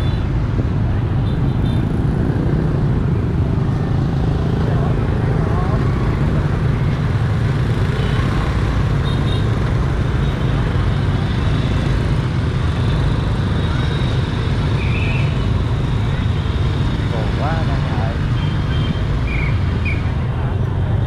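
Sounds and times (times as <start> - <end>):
loud low outdoor rumble: 0.0 - 21.0.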